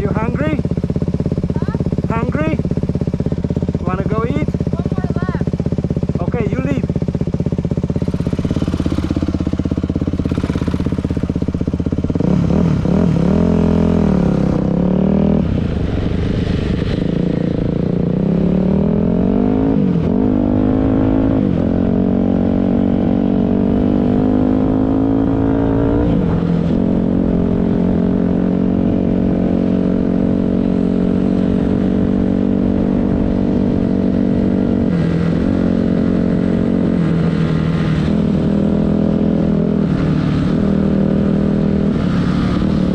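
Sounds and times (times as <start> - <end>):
dirt bike engine accelerating: 0.0 - 42.9.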